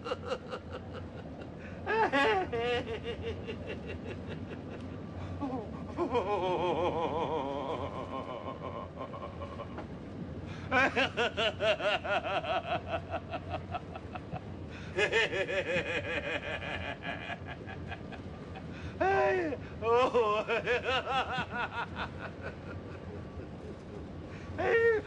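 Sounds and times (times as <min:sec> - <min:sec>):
person laughing: 0:00.1 - 0:09.9, 0:10.7 - 0:25.0.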